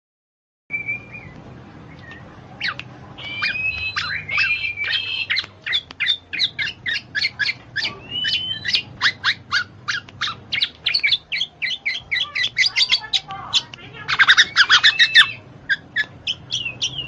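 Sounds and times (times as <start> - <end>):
bird whistled notes: 0.7 - 13.0, 14.2 - 17.0
birds chirping: 0.7 - 17.0.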